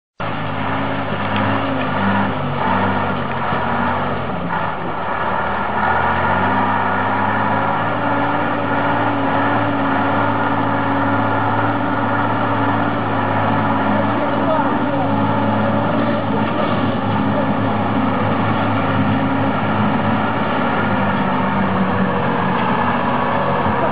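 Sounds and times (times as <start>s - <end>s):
truck engine working hard: 0.2s - 23.9s.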